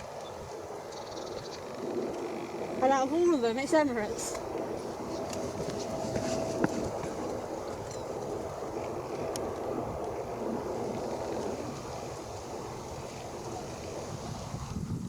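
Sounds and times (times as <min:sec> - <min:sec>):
jet engines rushing: 0:00.0 - 0:15.0
wind on microphone: 0:00.0 - 0:15.0.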